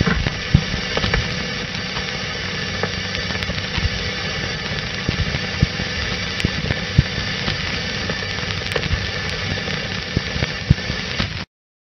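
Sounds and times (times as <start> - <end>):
film soundtrack hiss and rumble: 0.0 - 11.4
crackles and pops: 0.0 - 11.5.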